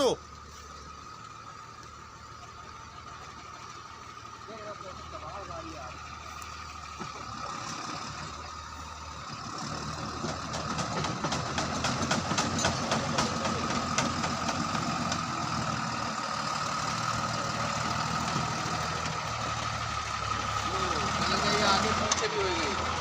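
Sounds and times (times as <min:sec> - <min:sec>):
diesel truck engine revving: 0:00.0 - 0:23.0.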